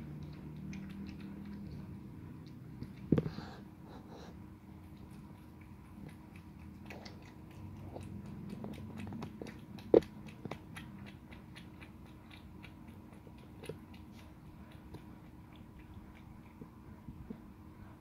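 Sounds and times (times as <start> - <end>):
cat chewing wet food: 0.0 - 18.0.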